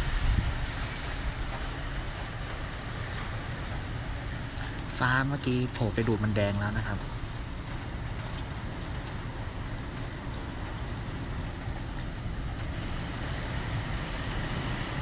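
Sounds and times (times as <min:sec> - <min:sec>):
wind roaring around building: 0:00.0 - 0:15.0.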